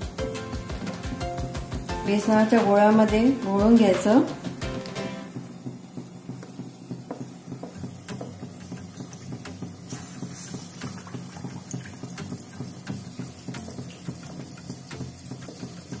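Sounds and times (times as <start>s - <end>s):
food deep-frying in oil: 0.8s - 16.0s.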